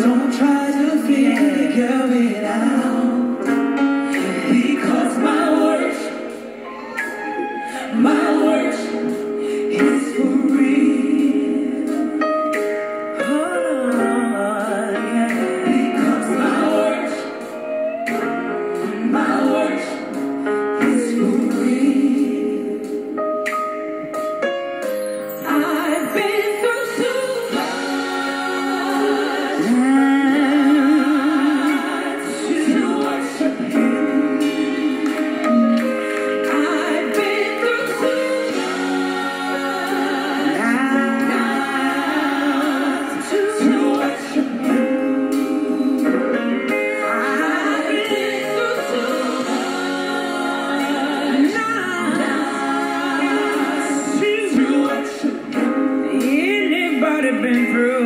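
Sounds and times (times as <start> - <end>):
woman singing gospel: 0.0 - 6.4, 7.0 - 12.6, 13.2 - 17.5, 18.1 - 20.2, 20.8 - 23.1, 25.4 - 58.0
instrumental accompaniment: 0.0 - 58.0.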